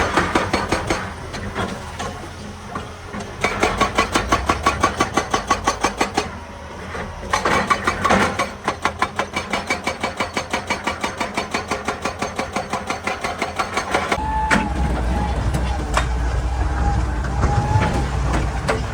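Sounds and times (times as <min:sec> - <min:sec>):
hydraulic breaker hammer pounding rock: 0:00.0 - 0:18.9.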